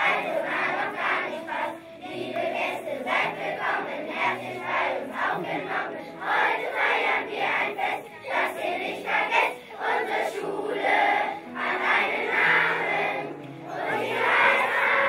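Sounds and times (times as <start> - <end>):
children singing in unison: 0.0 - 15.0.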